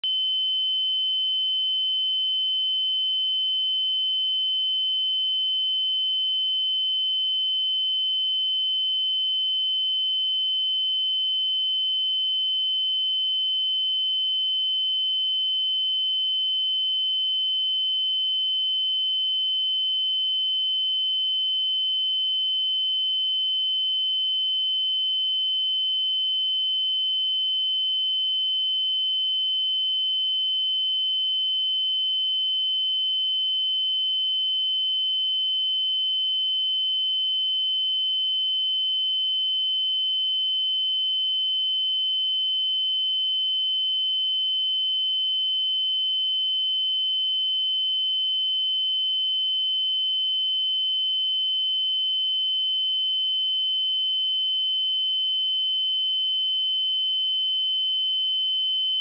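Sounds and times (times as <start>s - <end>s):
high-pitched sine-wave test tone: 0.0s - 59.0s.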